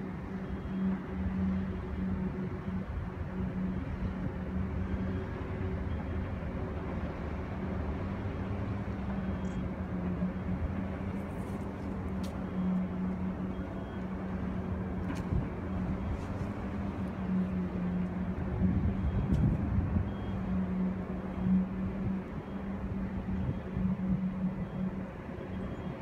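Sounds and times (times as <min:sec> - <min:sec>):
ferry diesel engines droning: 0:00.0 - 0:26.0.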